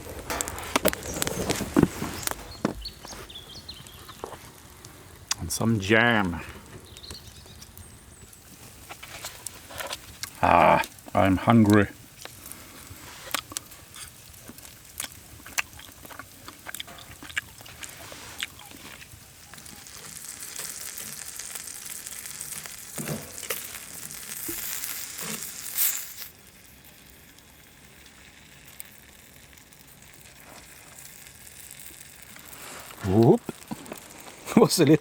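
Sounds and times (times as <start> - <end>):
food sizzling and crackling: 0.0 - 35.0.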